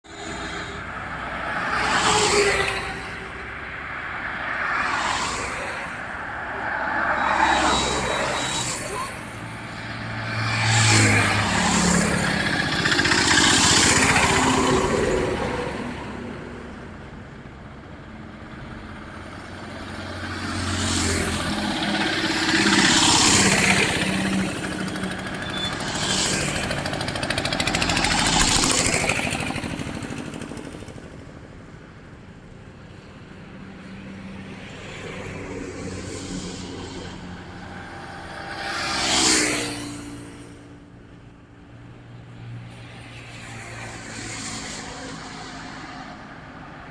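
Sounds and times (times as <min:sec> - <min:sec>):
vehicles passing on highway: 0:00.0 - 0:46.9.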